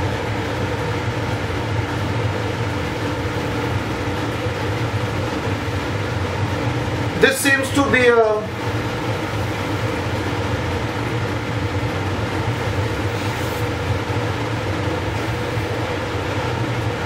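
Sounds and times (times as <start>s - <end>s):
blower fan airflow rush: 0.0s - 17.0s.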